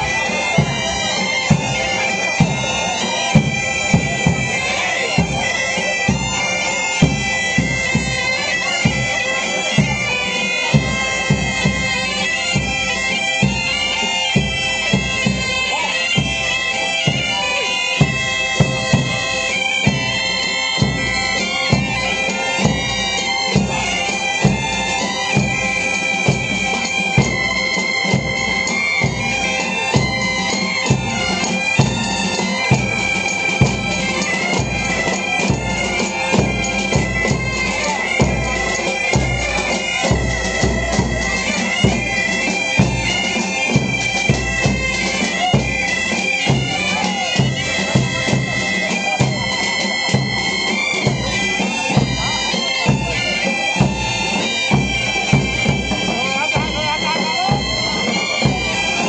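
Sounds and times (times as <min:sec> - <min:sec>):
bagpipes playing folk tune: 0:00.0 - 0:59.0
drums beating: 0:00.0 - 0:59.0.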